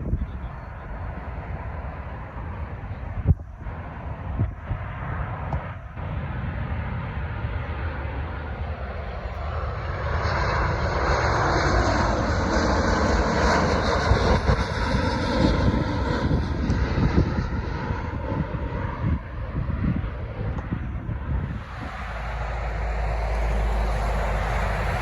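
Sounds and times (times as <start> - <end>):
jet airliner engines passing: 0.0 - 25.0.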